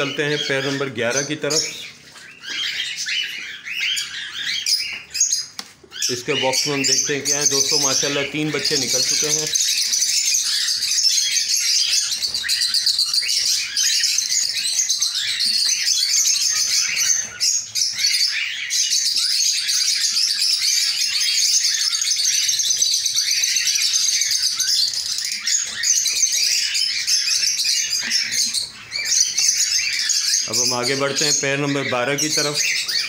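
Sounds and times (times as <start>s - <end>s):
cockatiels chattering and calling: 0.0s - 33.0s.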